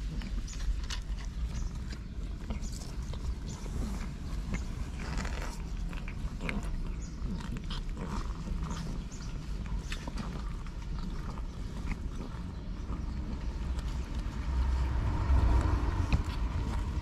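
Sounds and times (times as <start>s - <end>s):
cat licking kittens: 0.0s - 17.0s.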